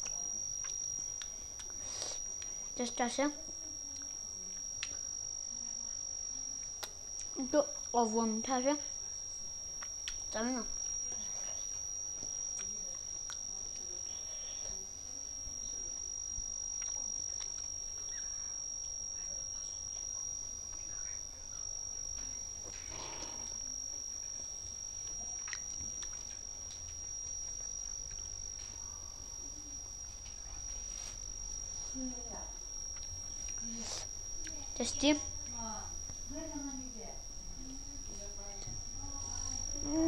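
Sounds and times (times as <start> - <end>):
soft chewing sounds: 0.0 - 2.8, 3.4 - 8.0, 9.2 - 36.3
cricket trill: 0.0 - 40.0.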